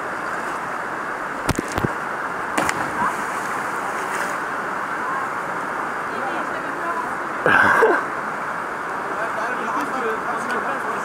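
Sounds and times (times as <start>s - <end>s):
river water rushing over rapids: 0.0s - 11.0s.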